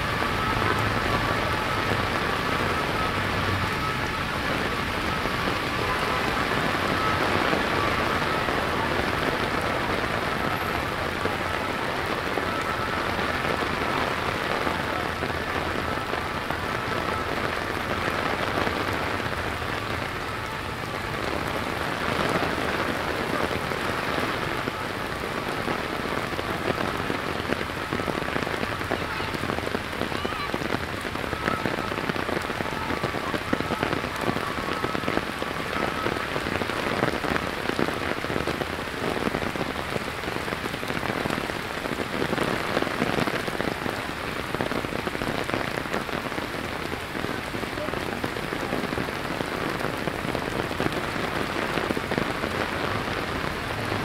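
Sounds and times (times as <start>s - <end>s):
heavy rain splashing on street: 0.0s - 54.0s.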